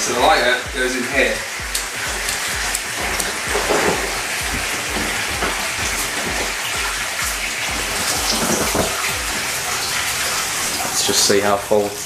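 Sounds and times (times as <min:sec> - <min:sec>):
background music with low beat: 0:00.0 - 0:09.9
water running into bathtub: 0:00.0 - 0:12.0.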